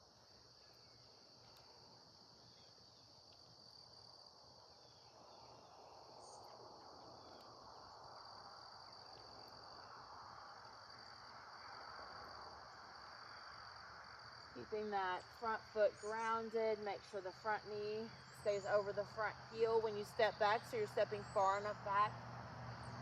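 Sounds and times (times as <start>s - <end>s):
insect chorus trilling: 0.0s - 14.6s, 15.2s - 23.0s.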